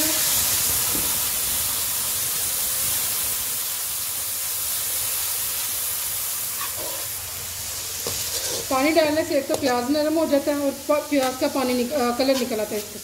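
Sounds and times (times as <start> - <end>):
water hissing in hot oil: 0.0 - 13.0.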